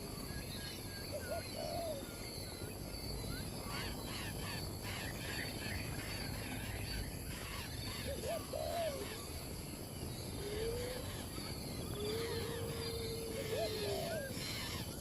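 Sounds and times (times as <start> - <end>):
low bird calls: 0.0 - 15.0.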